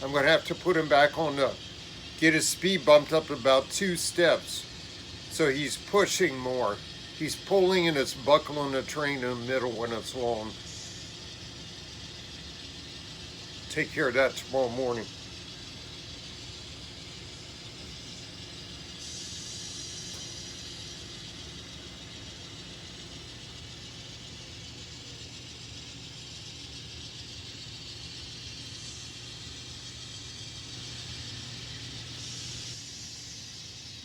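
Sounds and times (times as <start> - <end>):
model locomotive motor whirring: 0.0 - 34.0.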